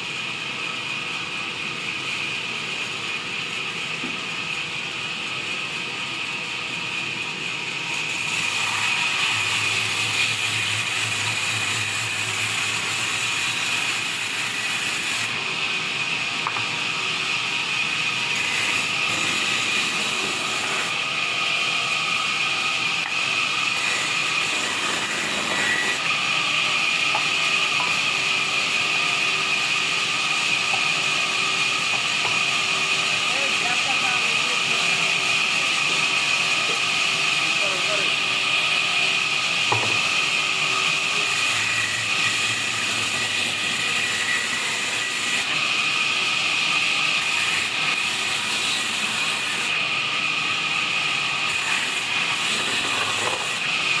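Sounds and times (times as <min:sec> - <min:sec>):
band saw cutting wood: 0:07.6 - 0:54.0.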